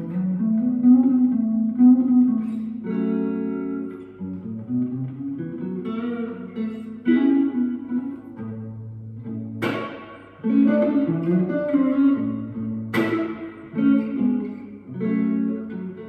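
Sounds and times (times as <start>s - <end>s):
overdriven electric guitar blues: 0.0s - 16.0s.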